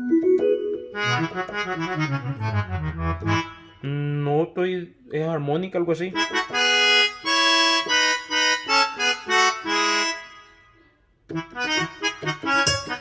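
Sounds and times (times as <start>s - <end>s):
keyboard playing accordion-like notes: 0.0s - 4.1s, 6.1s - 13.0s.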